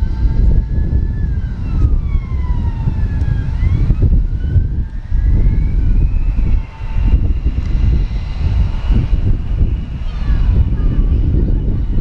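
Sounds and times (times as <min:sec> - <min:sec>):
jet engines whining and rumbling: 0:00.0 - 0:12.0.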